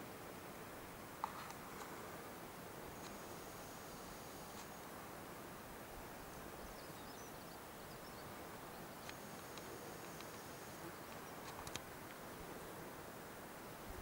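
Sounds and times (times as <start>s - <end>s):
recorder hiss: 0.0s - 14.0s.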